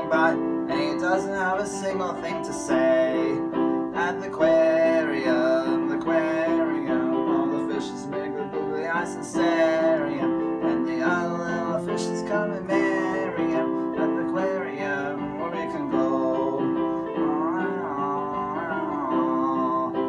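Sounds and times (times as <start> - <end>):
electronic keyboard chords: 0.0 - 20.0
man singing: 0.0 - 20.0.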